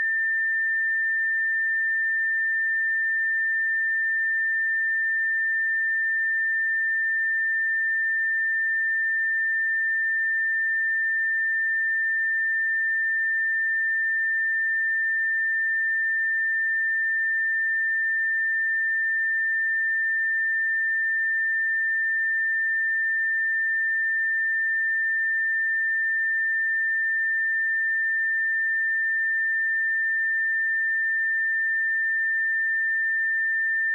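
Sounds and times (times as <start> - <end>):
sine wave test tone: 0.0 - 33.9.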